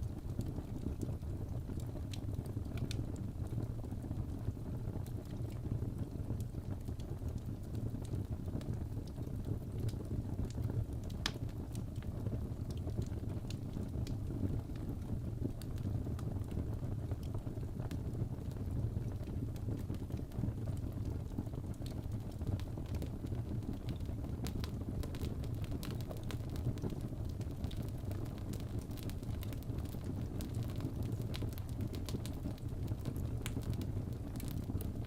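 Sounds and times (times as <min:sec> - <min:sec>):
fireplace fire crackling: 0:00.0 - 0:35.0.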